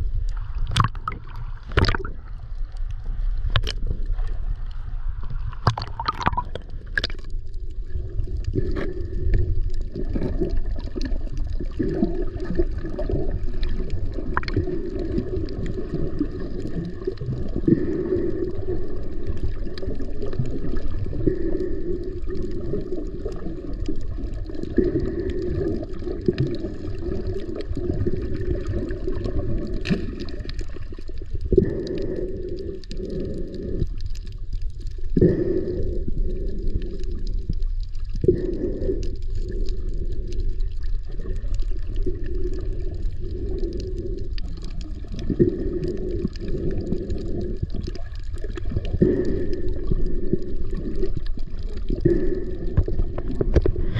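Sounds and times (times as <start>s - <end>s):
muffled underwater rumble: 0.0s - 53.9s.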